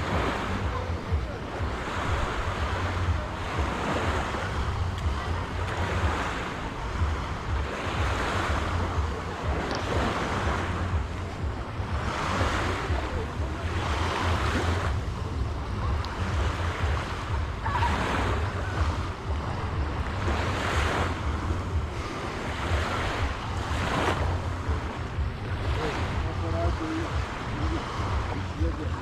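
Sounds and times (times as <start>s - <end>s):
waves washing onto shore: 0.0s - 29.0s
wind buffeting microphone: 0.0s - 29.0s.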